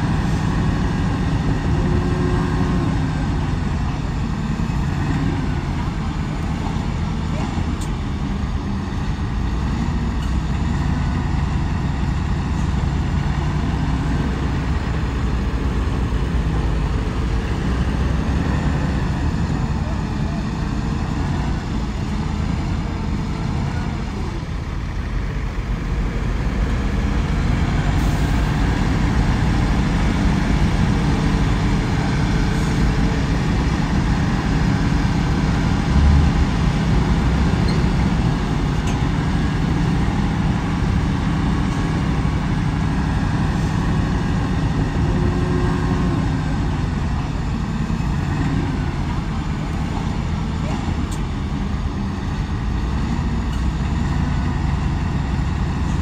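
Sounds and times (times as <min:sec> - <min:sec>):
heavy diesel machinery rumbling: 0:00.0 - 0:56.0.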